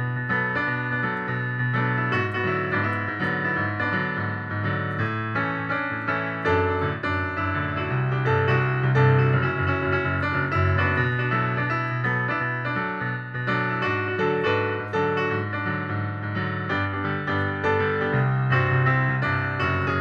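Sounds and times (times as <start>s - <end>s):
digital piano playing pop: 0.0s - 20.0s.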